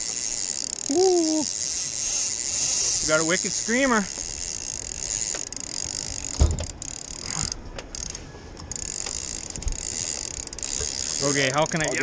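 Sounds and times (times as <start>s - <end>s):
fishing reel drag screaming: 0.0s - 8.1s, 8.7s - 12.0s.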